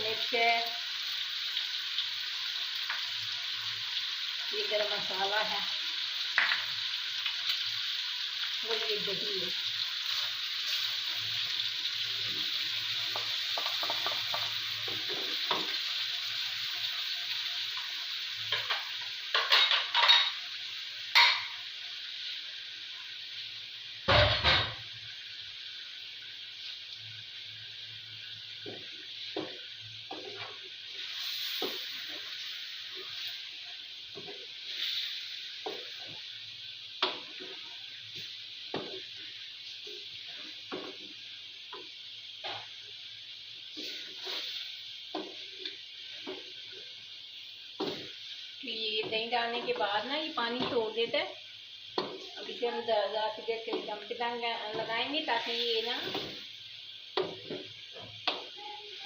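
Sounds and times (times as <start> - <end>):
chicken sizzling in a pot: 0.0 - 59.0.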